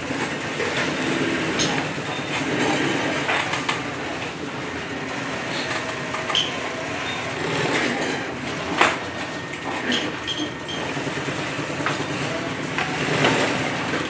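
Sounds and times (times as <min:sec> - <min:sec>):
sewing machine motor hum: 0:00.0 - 0:14.0.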